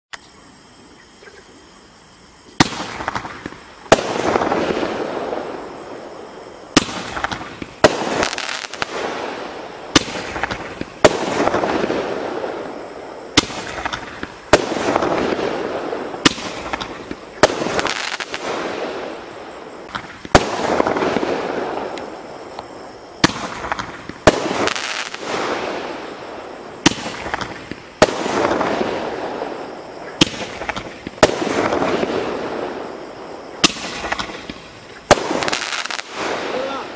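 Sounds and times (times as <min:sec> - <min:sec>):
rushing hiss of fireworks: 0:00.6 - 0:36.9.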